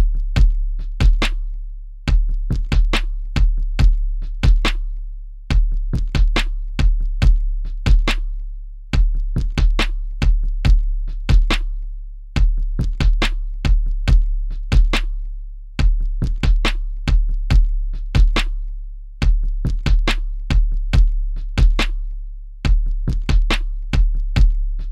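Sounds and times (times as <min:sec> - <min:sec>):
deep bass kick: 0:00.0 - 0:01.4, 0:02.1 - 0:04.8, 0:05.5 - 0:08.3, 0:08.9 - 0:11.7, 0:12.4 - 0:15.2, 0:15.8 - 0:18.6, 0:19.2 - 0:22.0, 0:22.7 - 0:24.9.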